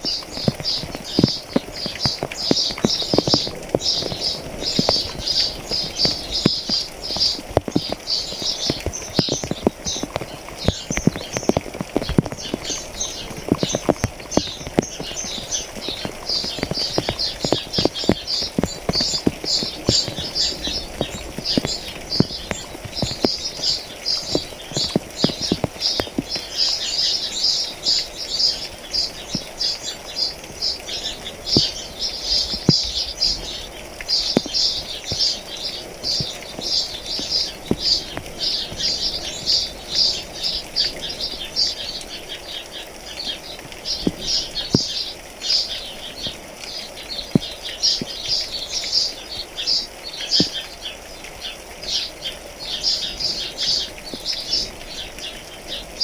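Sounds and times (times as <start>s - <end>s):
rain drops ticking: 0.0s - 56.0s
small birds chirping: 0.0s - 56.0s.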